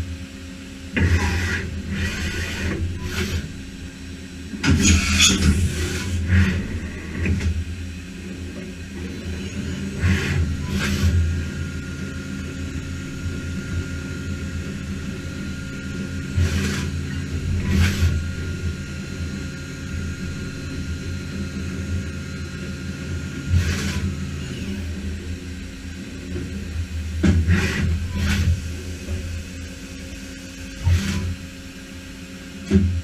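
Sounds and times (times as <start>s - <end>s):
machine humming and whining: 0.0s - 33.0s.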